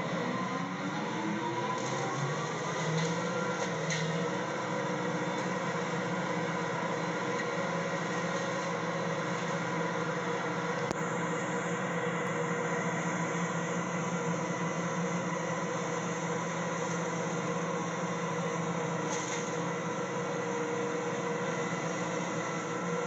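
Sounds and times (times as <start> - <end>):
garbage truck engine droning: 0.0 - 23.0.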